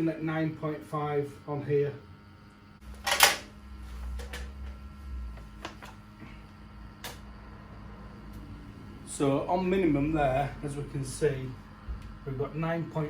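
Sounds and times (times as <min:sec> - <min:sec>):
gas boiler humming: 0:00.0 - 0:13.0.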